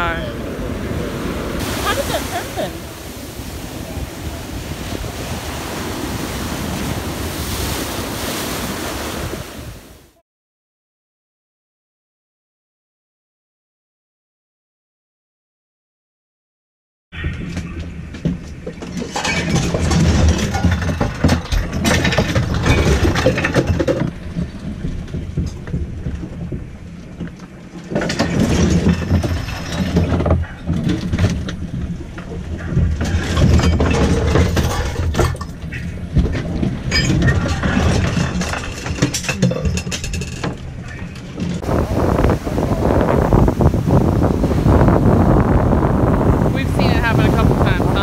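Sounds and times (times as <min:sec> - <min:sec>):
waves striking boat hull: 0:00.0 - 0:10.2, 0:17.2 - 0:48.0.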